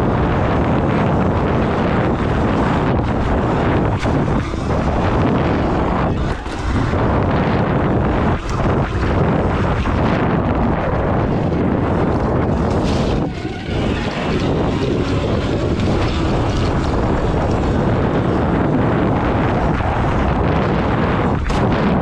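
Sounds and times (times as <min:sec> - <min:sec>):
dirt bike tyre and chassis rattle: 0:00.0 - 0:22.0
wind buffeting microphone: 0:00.0 - 0:22.0.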